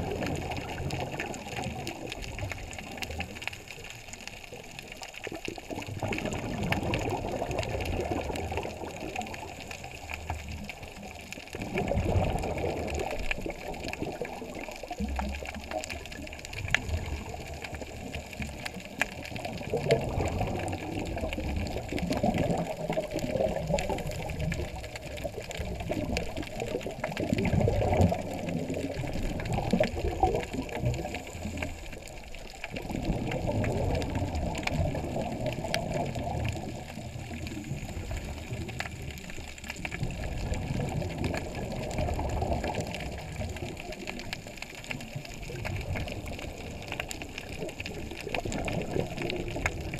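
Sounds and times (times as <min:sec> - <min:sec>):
exhaled bubbles underwater: 0:00.0 - 0:49.9.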